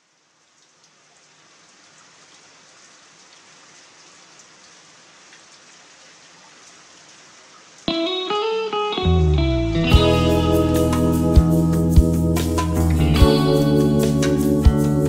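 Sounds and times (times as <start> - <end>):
rain-like hiss: 0.0 - 9.0, 9.7 - 15.0.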